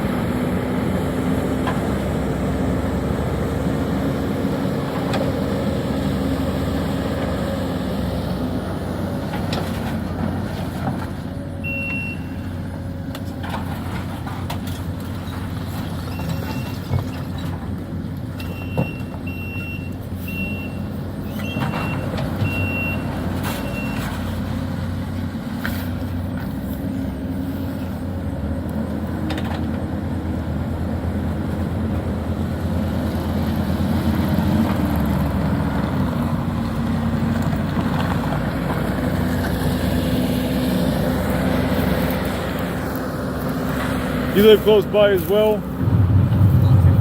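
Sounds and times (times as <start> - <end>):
diesel machinery engine: 0.0 - 47.0.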